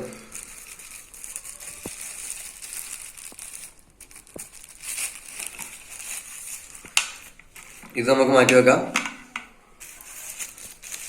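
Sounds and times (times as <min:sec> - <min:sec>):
packaging crinkling: 0:00.0 - 0:08.7, 0:09.8 - 0:11.0.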